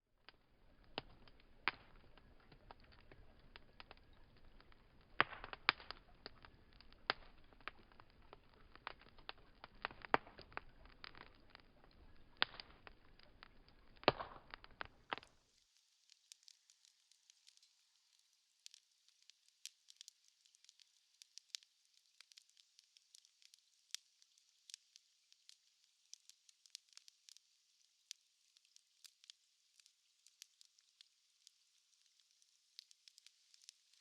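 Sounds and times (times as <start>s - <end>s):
soft hiss of fire: 0.0s - 34.0s
fire pops and snaps: 0.2s - 34.0s
wood fire crackling: 0.2s - 34.0s.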